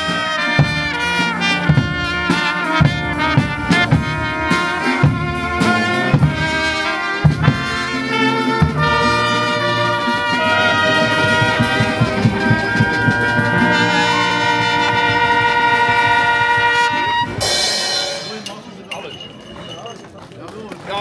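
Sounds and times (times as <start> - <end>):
brass band playing: 0.0 - 18.9
drum strikes: 0.0 - 19.4.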